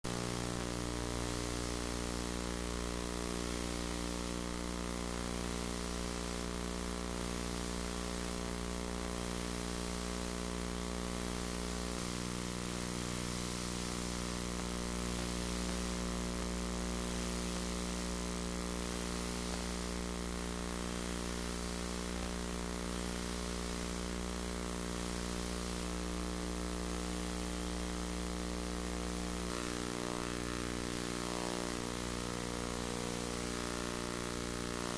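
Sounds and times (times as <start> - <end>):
buzzy electrical hum: 0.1 - 34.9
tape hiss: 0.1 - 34.9.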